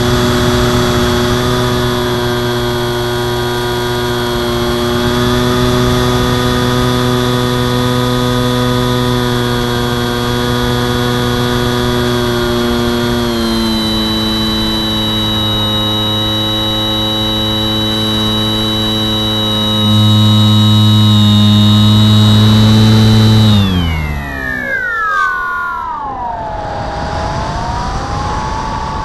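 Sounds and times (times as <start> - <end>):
electric motor and propeller whine: 0.0 - 29.0.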